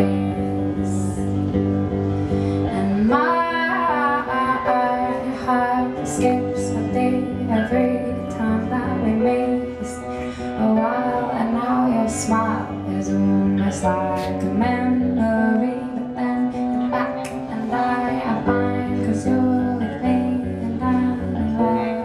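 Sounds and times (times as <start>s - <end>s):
woman singing: 0.0s - 1.6s, 2.6s - 22.0s
instrumental accompaniment: 0.0s - 22.0s.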